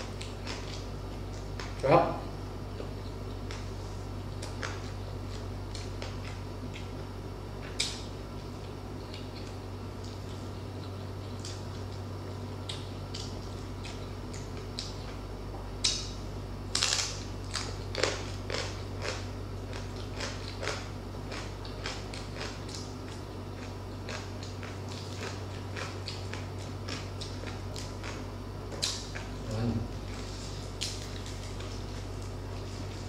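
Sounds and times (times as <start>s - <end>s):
crunching and chewing crispy food: 0.0s - 1.9s, 2.7s - 33.0s.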